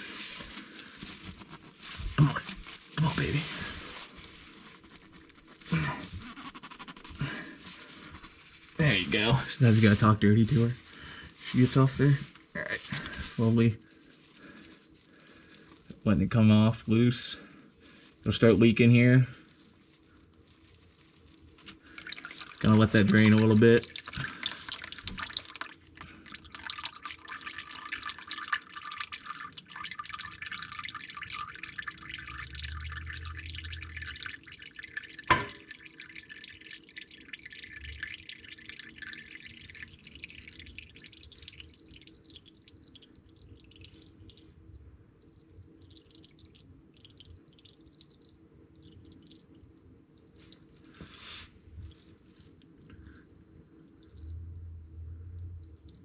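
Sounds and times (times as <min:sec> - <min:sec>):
oil dripping: 0:00.0 - 0:56.0.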